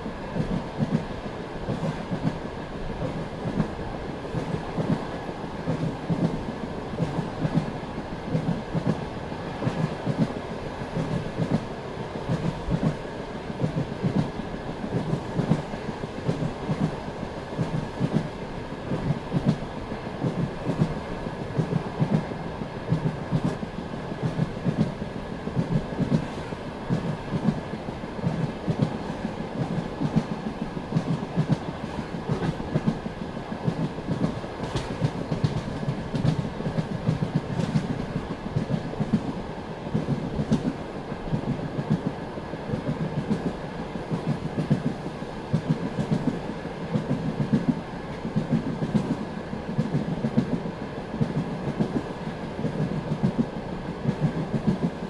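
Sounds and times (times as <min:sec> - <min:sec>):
train wheels clacking on rails: 0:00.0 - 0:55.0.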